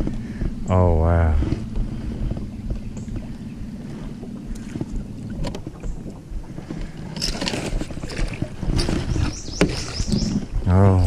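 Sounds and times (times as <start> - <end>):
water lapping against boat: 0.0 - 11.0
wind rumbling on microphone: 0.0 - 11.0.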